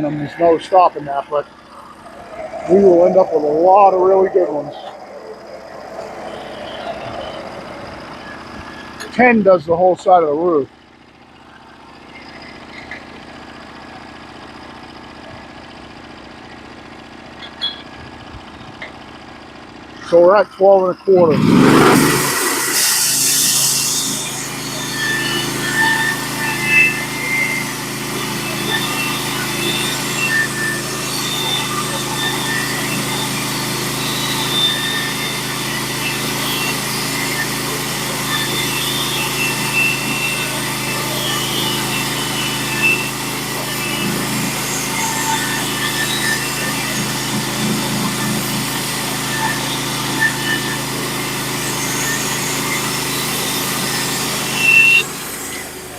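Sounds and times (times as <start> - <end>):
faint high blade whine: 0.0 - 55.9
sawmill engine running: 0.0 - 55.9.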